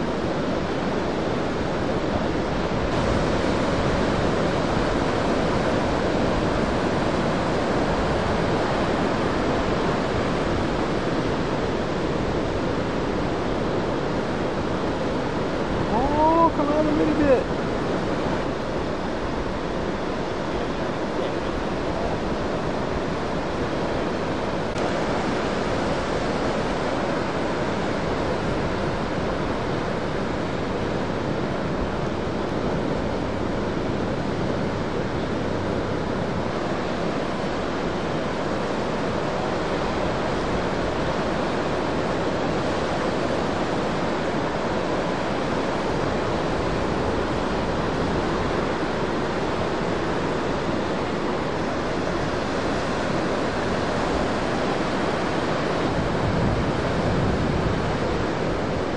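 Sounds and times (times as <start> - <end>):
ocean surf breaking: 0.0 - 58.9.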